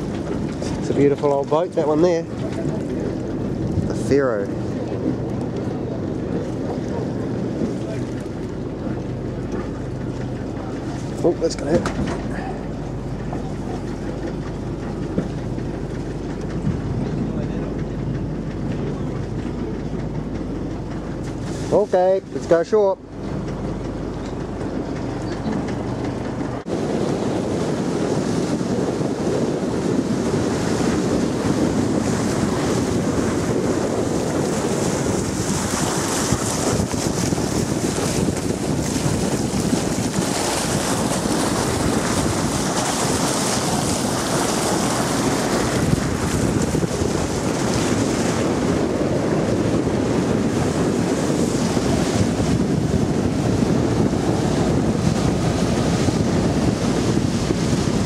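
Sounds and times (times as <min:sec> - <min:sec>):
water washing around boat: 0:00.0 - 0:58.0
wind buffeting microphone: 0:00.0 - 0:58.0.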